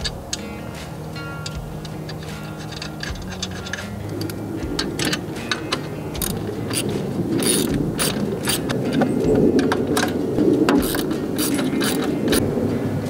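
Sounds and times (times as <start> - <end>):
ratchet wrench clicking: 1.2 - 8.8, 9.6 - 12.4.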